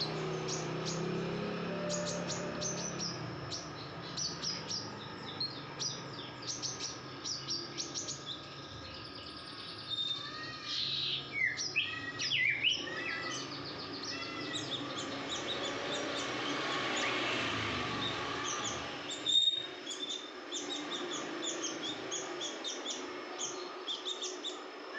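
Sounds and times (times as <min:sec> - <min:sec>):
songbird chirping: 0:00.0 - 0:24.9.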